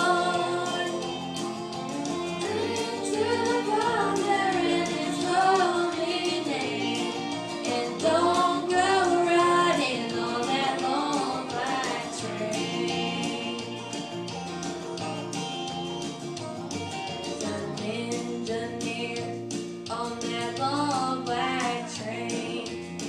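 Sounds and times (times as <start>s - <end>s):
woman singing: 0.0s - 1.2s, 2.2s - 14.0s, 17.4s - 22.9s
backing track with bass and drums: 0.0s - 23.0s.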